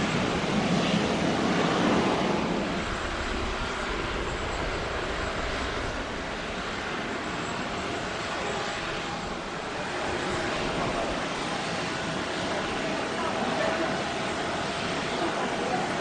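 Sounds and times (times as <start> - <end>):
jet engines rushing with whine: 0.0 - 16.0.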